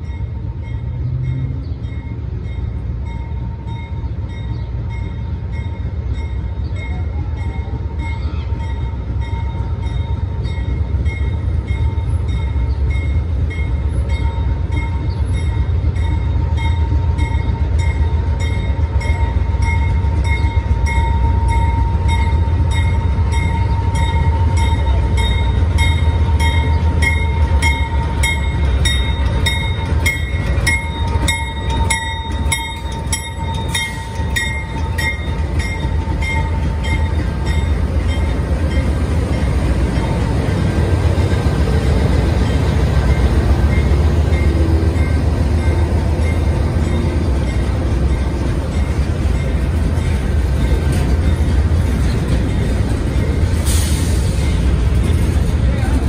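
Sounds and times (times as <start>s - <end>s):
diesel locomotives rumbling: 0.0s - 56.0s
grade-crossing bell ringing: 0.0s - 56.0s.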